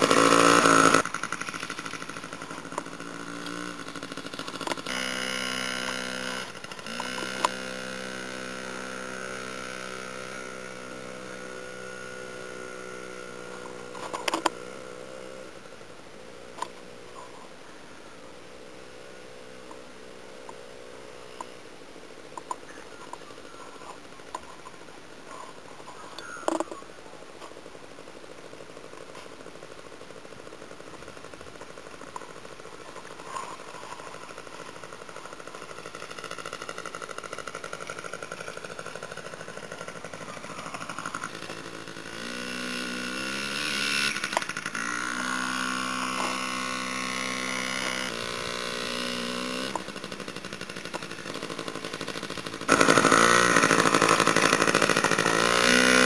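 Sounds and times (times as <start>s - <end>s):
dirt bike engine revving: 0.0s - 17.3s, 28.4s - 56.0s.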